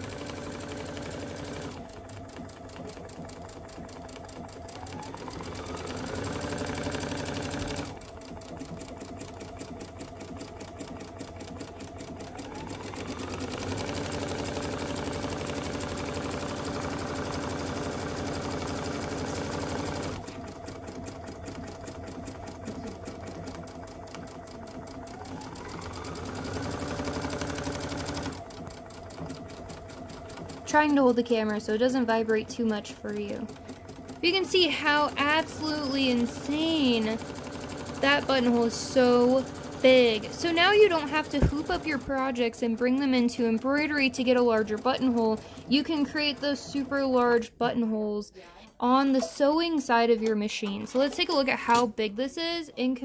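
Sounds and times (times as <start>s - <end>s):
sewing machine motor whine: 0.0s - 47.2s
sewing machine stitching: 0.0s - 47.3s.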